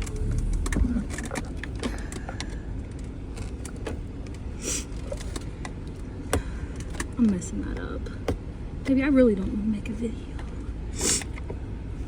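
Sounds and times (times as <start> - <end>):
idling engine rumble: 0.0 - 12.0.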